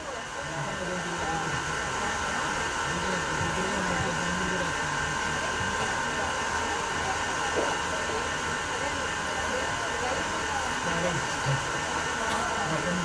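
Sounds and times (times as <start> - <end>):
steady whirring hum: 0.0 - 13.0.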